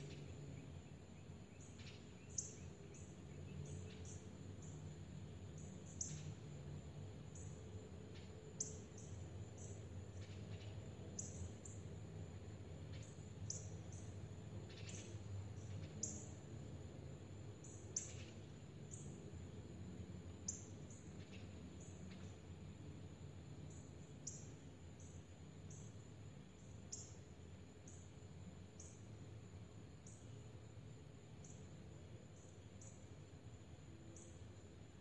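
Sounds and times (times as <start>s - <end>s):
wild birds chirping: 0.0s - 19.7s, 20.3s - 33.4s
low outdoor hum: 0.0s - 35.0s.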